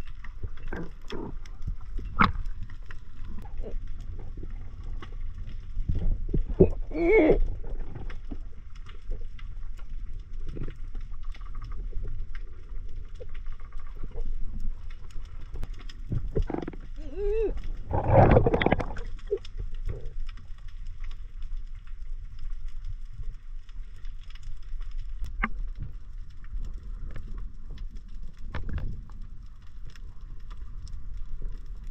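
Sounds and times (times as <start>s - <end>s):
underwater water rumble: 0.0s - 31.9s.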